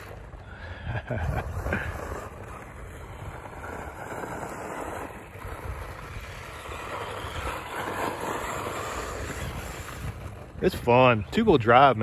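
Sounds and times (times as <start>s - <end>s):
rc truck tires on dirt: 0.0s - 12.0s.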